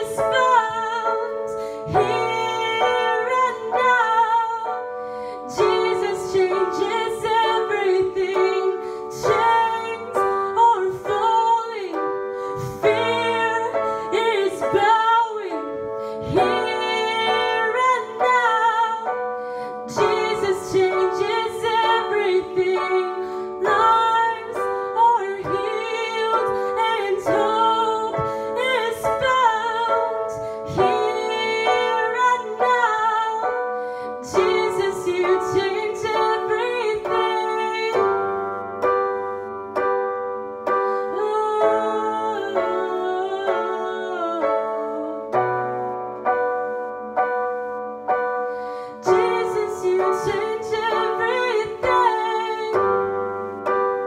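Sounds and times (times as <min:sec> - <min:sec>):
woman singing: 0:00.0 - 0:39.0, 0:40.9 - 0:45.9, 0:48.8 - 0:53.8
sustained keyboard chords: 0:00.0 - 0:54.0.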